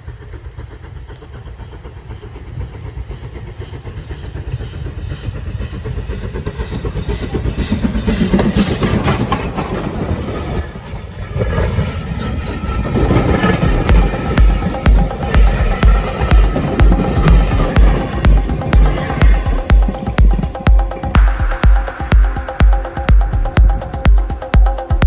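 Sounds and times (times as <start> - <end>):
steam train chuffing: 0.0 - 25.0.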